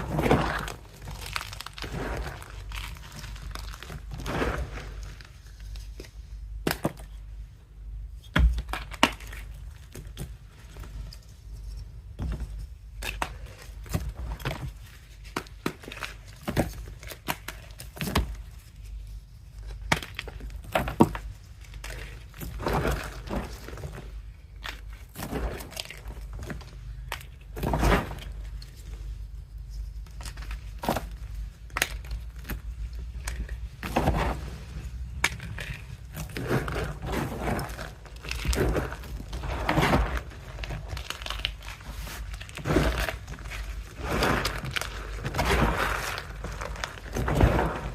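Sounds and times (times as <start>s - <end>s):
chalk being crushed by hand: 0.0s - 7.2s, 12.6s - 47.9s.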